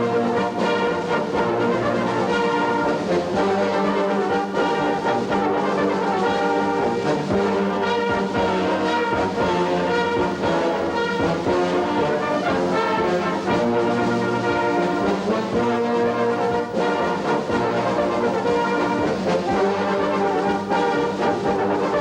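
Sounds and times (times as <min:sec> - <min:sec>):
brass band sustained chords: 0:00.0 - 0:22.0.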